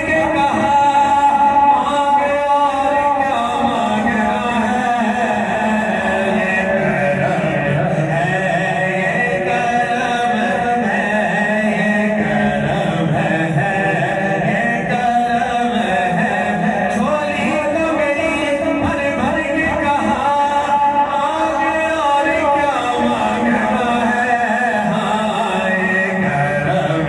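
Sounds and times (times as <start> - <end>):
lead singer on microphone: 0.0 - 27.0.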